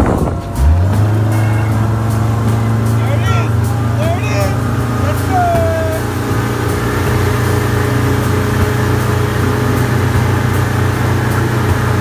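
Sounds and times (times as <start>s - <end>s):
boat wake rushing: 0.0s - 12.0s
outboard motor running: 0.0s - 12.0s.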